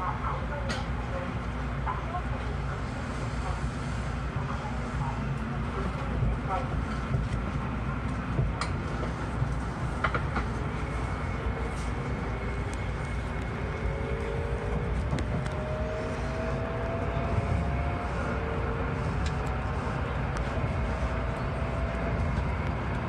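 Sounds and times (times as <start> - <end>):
train rumble with rising whine: 0.0 - 23.0.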